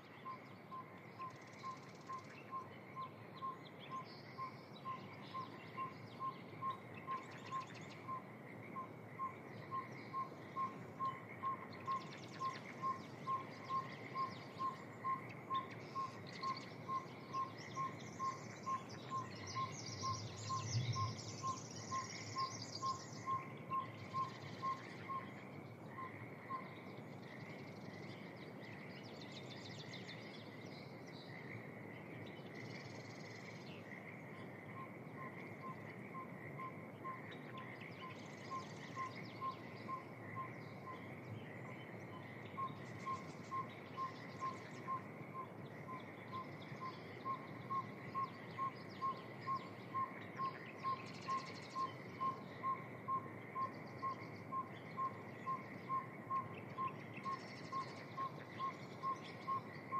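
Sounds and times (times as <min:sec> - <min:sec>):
bird song: 0:00.0 - 0:59.9.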